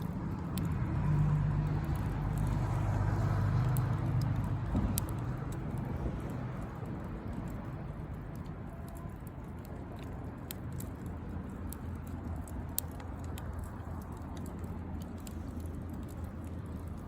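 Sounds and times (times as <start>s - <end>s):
low background rumble: 0.0s - 17.0s
wood fire crackling: 0.0s - 17.0s.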